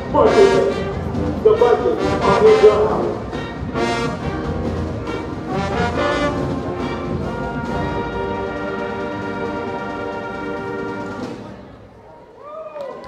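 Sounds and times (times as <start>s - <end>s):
marching band brass chords: 0.0s - 12.1s.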